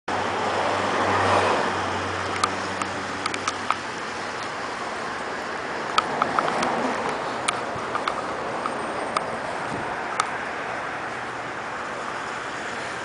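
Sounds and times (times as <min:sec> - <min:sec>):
engine hum: 0:00.1 - 0:13.0
traffic noise: 0:00.1 - 0:13.0.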